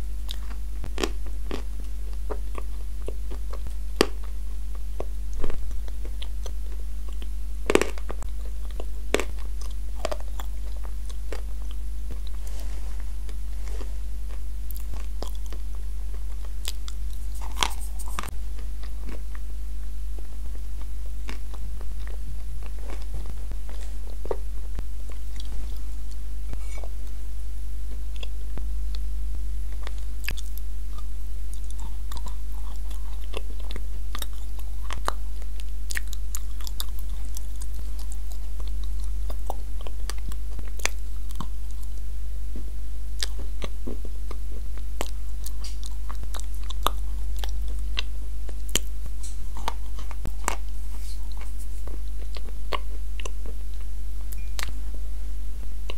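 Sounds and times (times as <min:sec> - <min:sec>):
low electrical hum: 0:00.0 - 0:55.9
crunching and chewing: 0:00.2 - 0:27.2, 0:27.9 - 0:29.0, 0:29.7 - 0:55.0.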